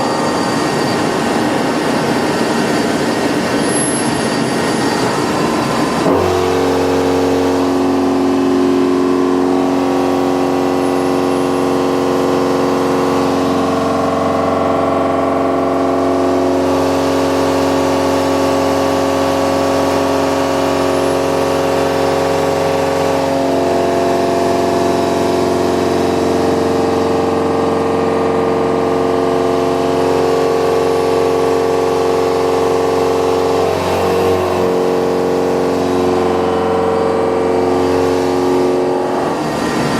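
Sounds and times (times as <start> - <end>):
milling cutter machining metal: 0.0 - 28.8, 29.6 - 39.9.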